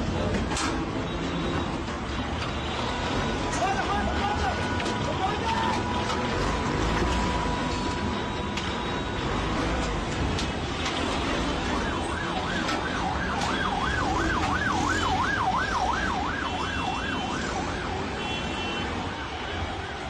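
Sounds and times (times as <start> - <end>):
steady noisy din: 0.0 - 20.0
siren wailing: 2.6 - 20.0.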